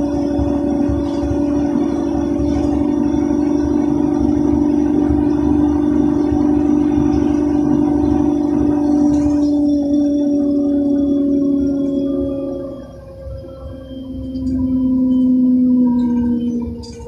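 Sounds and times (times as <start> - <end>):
bus engine and road noise: 0.0 - 17.0
high constant hum: 0.0 - 17.0.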